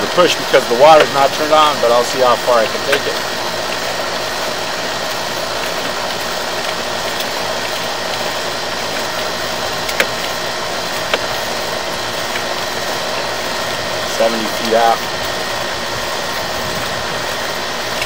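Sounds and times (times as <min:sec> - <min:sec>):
compressor unit humming: 0:00.0 - 0:18.0.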